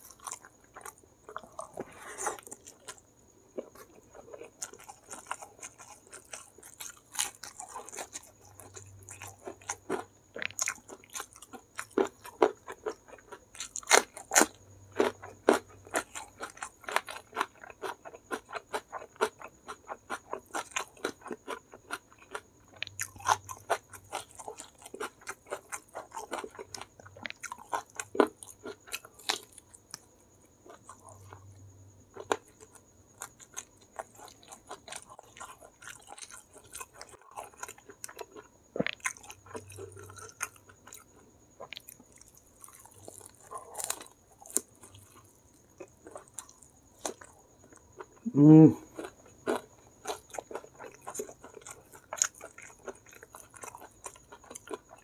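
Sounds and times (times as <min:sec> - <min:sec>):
chewing crispy chicken: 0:00.0 - 0:55.0.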